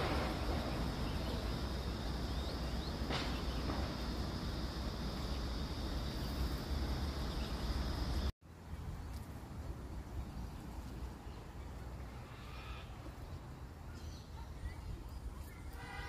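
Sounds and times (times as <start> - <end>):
quiet outdoor background: 0.0 - 16.0.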